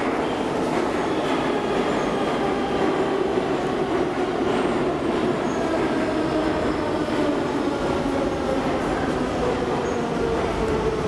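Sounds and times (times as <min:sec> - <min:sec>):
subway car hum: 0:00.0 - 0:11.0.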